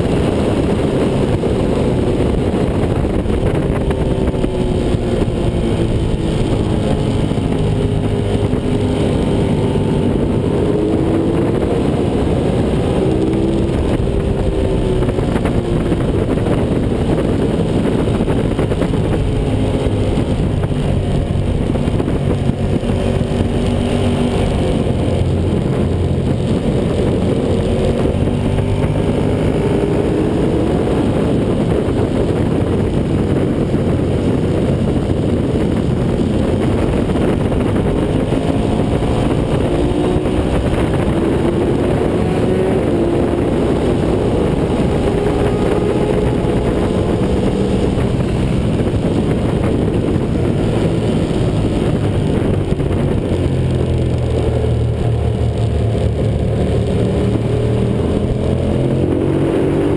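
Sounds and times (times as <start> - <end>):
motorcycle engine revving: 0.0 - 59.9
wind rushing on microphone: 0.0 - 59.9.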